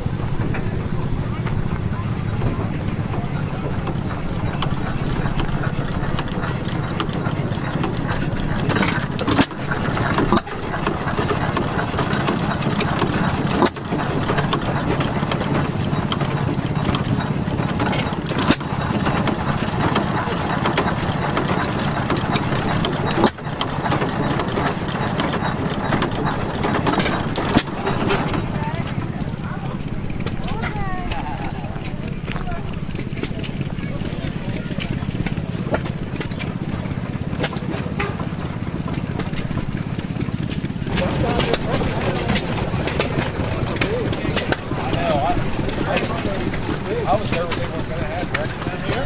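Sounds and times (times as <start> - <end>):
old gas engines running: 0.0 - 49.0.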